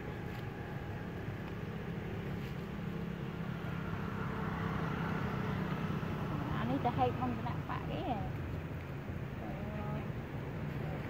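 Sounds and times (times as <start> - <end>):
motor vehicle engine hum: 0.0 - 11.0.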